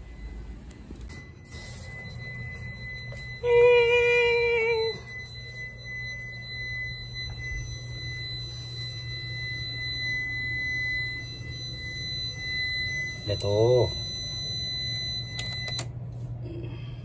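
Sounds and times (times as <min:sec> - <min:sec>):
high-pitched alarm tone: 0:00.0 - 0:15.9
lower wavering tone: 0:00.0 - 0:16.9.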